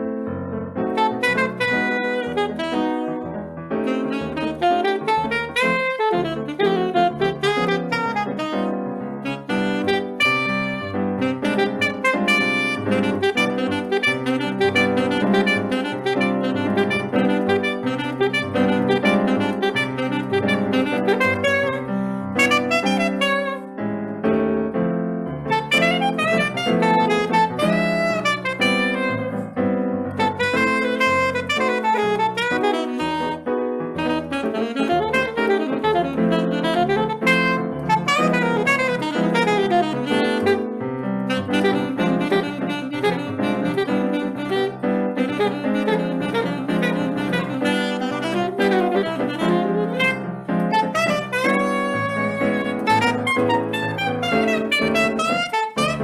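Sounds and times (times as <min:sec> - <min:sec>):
bass notes: 0:00.0 - 0:56.0
piano accompaniment: 0:00.0 - 0:56.0
saxophone melody: 0:00.7 - 0:23.9, 0:25.3 - 0:56.0.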